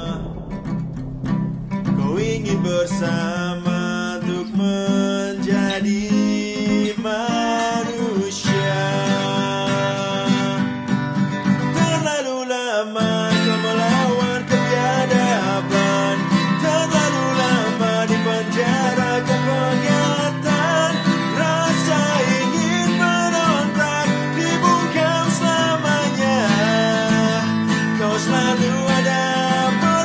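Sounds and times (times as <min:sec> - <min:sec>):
man singing: 0:00.0 - 0:00.6, 0:01.9 - 0:30.0
acoustic guitar strumming: 0:00.0 - 0:30.0.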